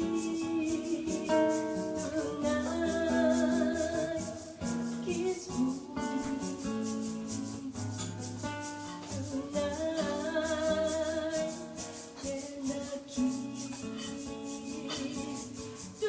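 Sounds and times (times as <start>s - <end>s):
acoustic guitar chords: 0.0s - 16.0s
shaker rhythm: 0.0s - 16.0s.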